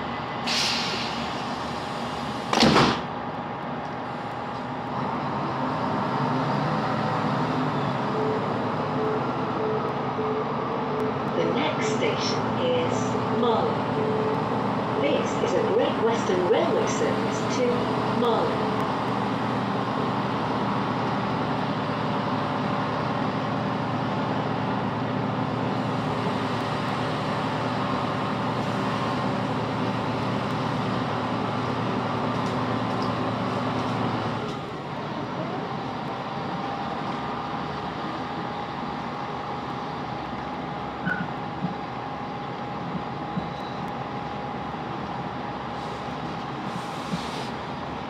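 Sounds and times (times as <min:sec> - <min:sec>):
rail running noise: 0:00.0 - 0:48.0
train diesel engine running: 0:00.0 - 0:48.0.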